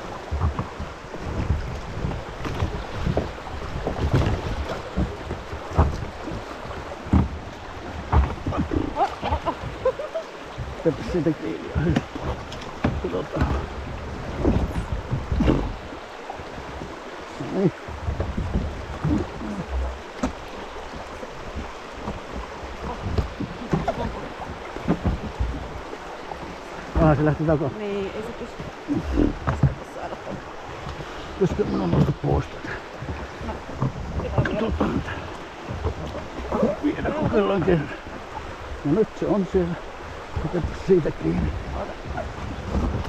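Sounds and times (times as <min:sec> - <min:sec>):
river rapid rushing: 0:00.0 - 0:43.0
wind buffeting microphone: 0:00.0 - 0:43.0.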